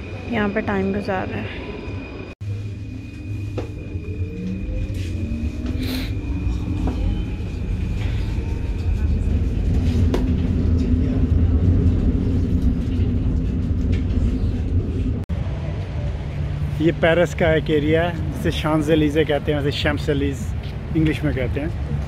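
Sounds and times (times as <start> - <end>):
train rumbling: 0.0 - 22.0
train whine: 0.0 - 22.0.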